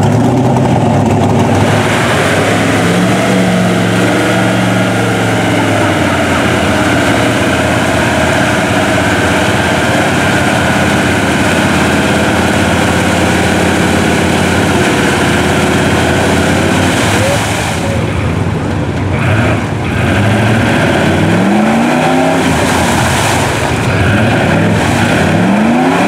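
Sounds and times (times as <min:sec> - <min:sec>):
tires spinning in mud: 0:00.0 - 0:26.0
truck engine revving: 0:00.0 - 0:26.0.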